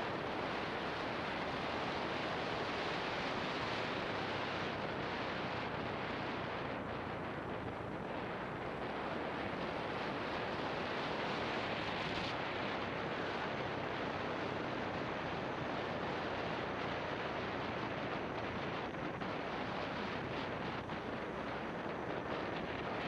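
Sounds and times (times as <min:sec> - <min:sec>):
road and engine noise: 0:00.0 - 0:23.0
wind rushing over microphone: 0:00.0 - 0:23.0.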